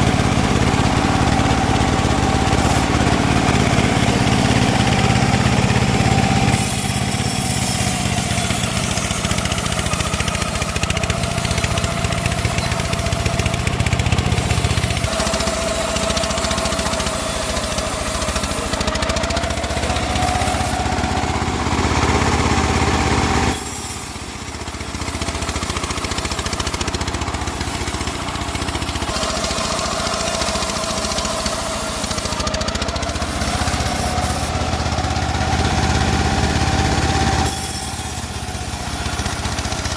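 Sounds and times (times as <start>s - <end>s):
bandsaw sawing wood: 0.0s - 39.9s.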